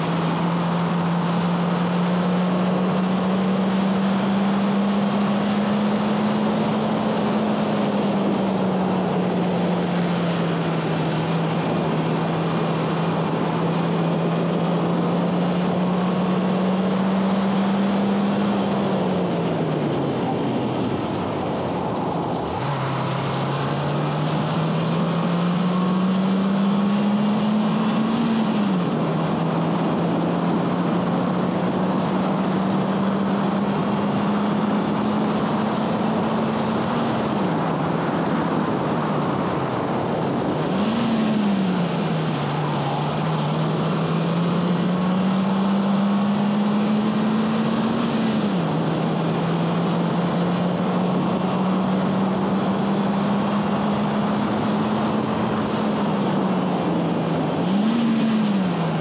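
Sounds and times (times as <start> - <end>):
car engine revving high: 0.0 - 21.3, 22.3 - 59.0
steady rush of noise: 0.0 - 59.0.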